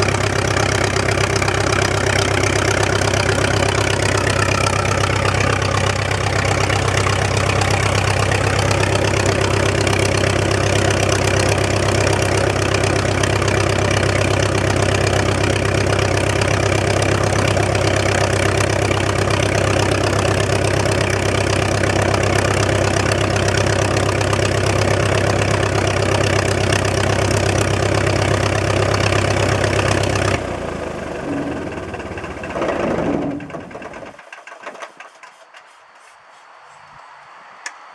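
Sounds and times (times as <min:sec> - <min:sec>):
propeller winding down: 0:00.0 - 0:34.9
piston aircraft engine running: 0:00.0 - 0:35.7.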